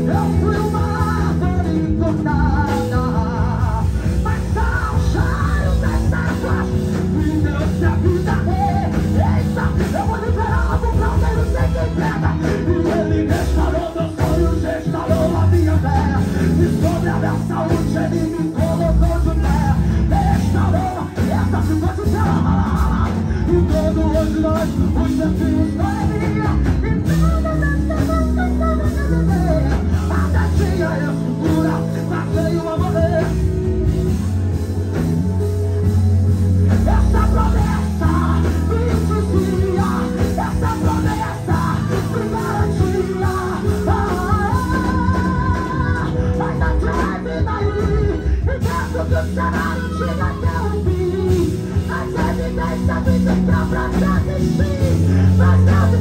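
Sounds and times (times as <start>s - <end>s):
man singing into microphone: 0.0s - 34.2s, 36.3s - 56.0s
gospel band playing: 0.0s - 56.0s.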